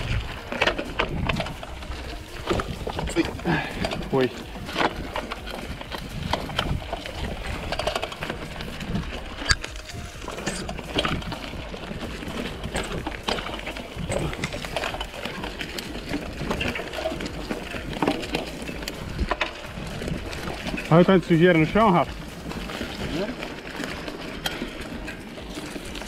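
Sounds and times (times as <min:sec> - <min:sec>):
bike rattling and knocking: 0:00.0 - 0:26.0
bike tyres crunching over dirt: 0:00.0 - 0:26.0.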